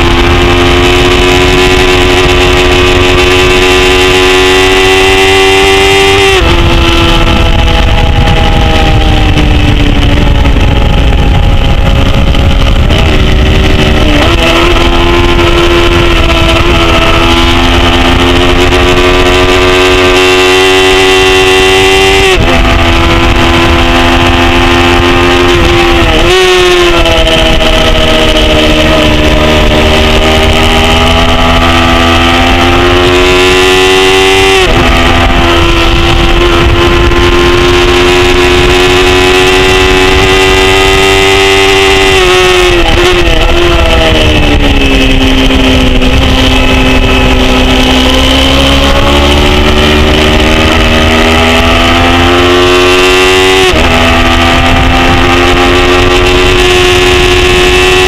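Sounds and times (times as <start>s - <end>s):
motorcycle engine at high revs: 0.0s - 58.0s
wind rush on microphone: 0.0s - 58.0s.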